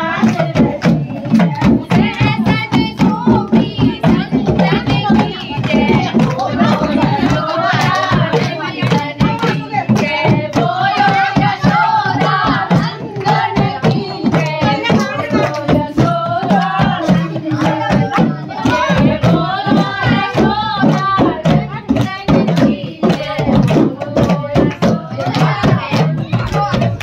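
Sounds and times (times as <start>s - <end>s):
group singing: 0.0s - 27.0s
rhythmic hand drumming: 0.0s - 27.0s
hand clapping: 0.1s - 3.4s, 5.0s - 19.0s, 19.6s - 27.0s.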